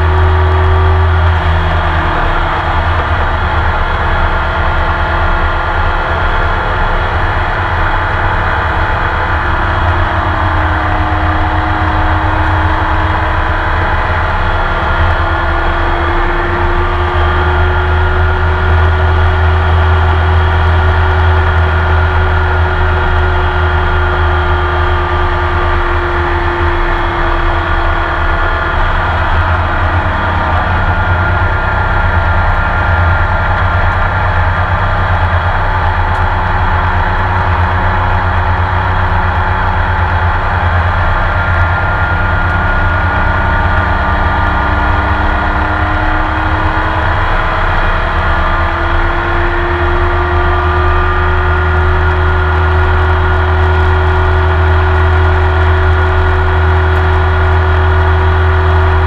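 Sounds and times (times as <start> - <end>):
racing car engine: 0.0 - 59.0.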